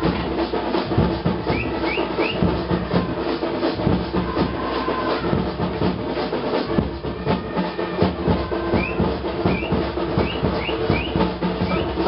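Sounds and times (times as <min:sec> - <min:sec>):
drums beating fast: 0:00.0 - 0:12.0.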